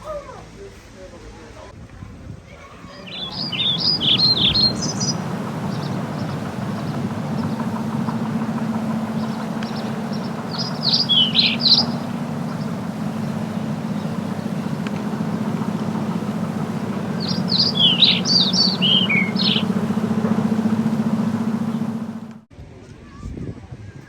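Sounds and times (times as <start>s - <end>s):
songbird chirping: 3.0s - 22.4s
machinery hum: 3.1s - 22.5s.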